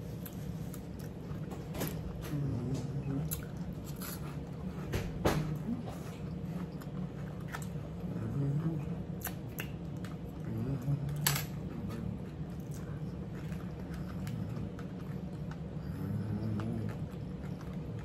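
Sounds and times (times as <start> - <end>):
people chewing food: 0.0 - 18.0
steady low hum: 0.0 - 18.0.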